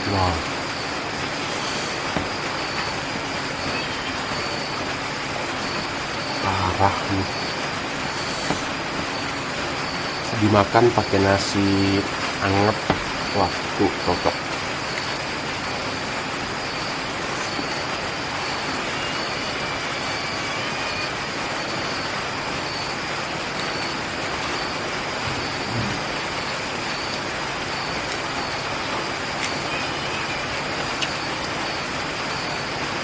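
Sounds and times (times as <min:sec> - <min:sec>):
faint high-pitched pulsing tone: 0:00.0 - 0:33.0
steady background hiss: 0:00.0 - 0:33.0.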